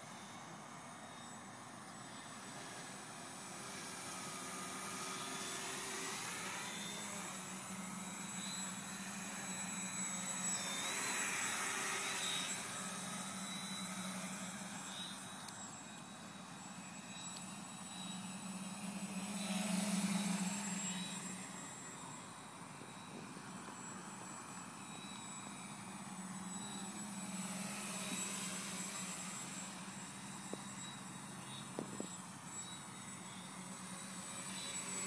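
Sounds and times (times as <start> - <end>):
drone motors and propellers whirring: 0.0 - 35.0.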